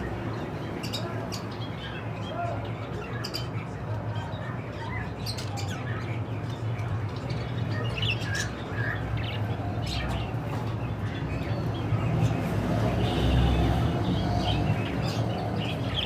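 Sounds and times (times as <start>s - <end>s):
budgerigars chirping and squawking: 0.0s - 16.0s.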